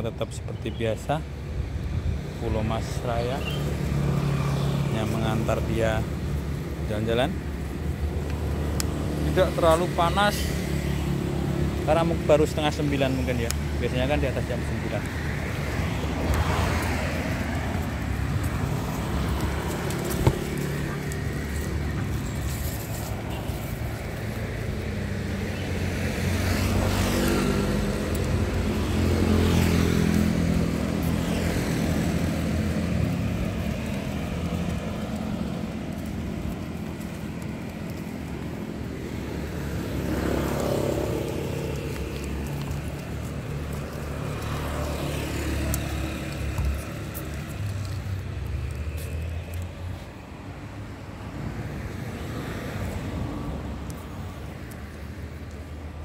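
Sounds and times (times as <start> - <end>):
vehicles passing: 0.0 - 56.0
vehicle engines running: 2.4 - 50.3.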